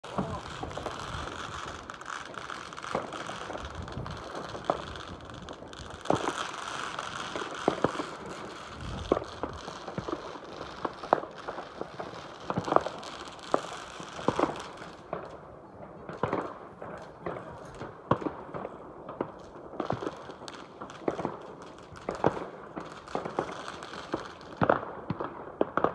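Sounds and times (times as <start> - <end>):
distant fireworks bangs and pops: 0.0 - 25.9.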